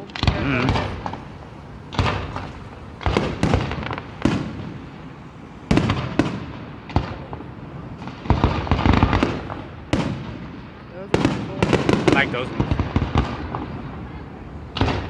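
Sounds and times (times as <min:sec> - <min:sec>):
firework shells booming: 0:00.0 - 0:15.0.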